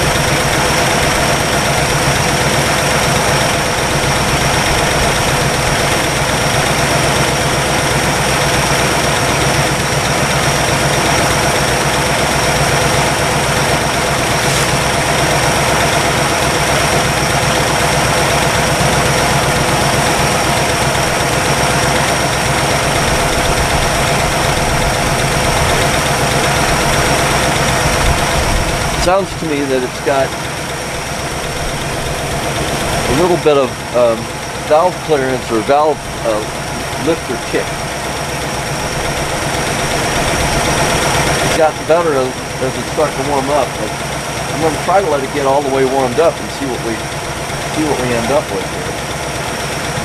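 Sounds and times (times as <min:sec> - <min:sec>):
car engine idling: 0:00.0 - 0:50.0
valvetrain ticking: 0:00.0 - 0:50.0.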